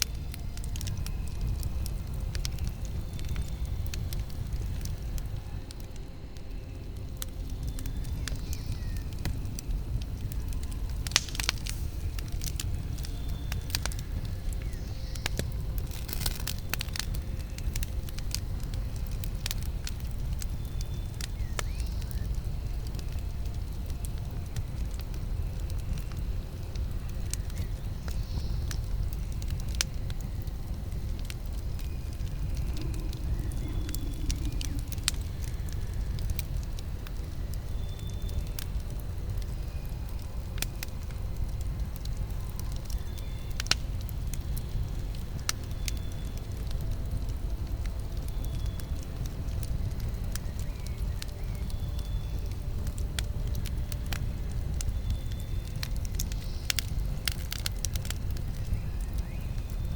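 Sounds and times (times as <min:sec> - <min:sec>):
campfire low rumble: 0:00.0 - 0:59.9
wood crackling and popping: 0:00.0 - 0:59.9.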